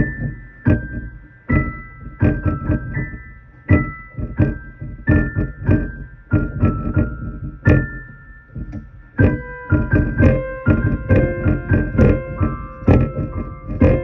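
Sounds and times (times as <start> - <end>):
electric keyboard piano music: 0.0 - 14.0.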